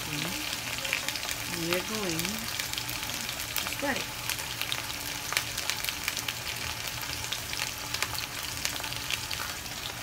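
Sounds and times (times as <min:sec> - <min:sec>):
chicken sizzling in frying pan: 0:00.0 - 0:10.0.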